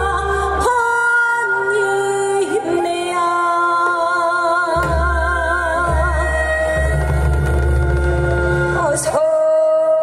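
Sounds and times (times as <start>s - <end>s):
woman singing into a microphone: 0.0s - 10.0s.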